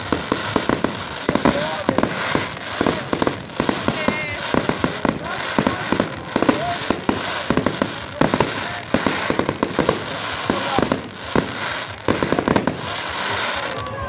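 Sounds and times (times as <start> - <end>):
crackling hiss: 0.0 - 14.0
fireworks bangs: 0.0 - 14.0.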